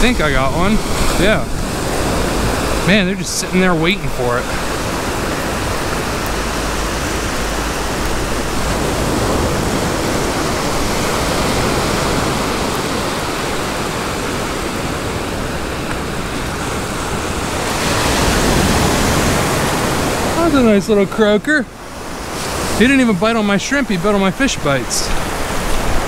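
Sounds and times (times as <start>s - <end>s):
wind noise: 0.0s - 21.0s, 21.7s - 26.0s
surf breaking on sandy beach: 0.0s - 26.0s.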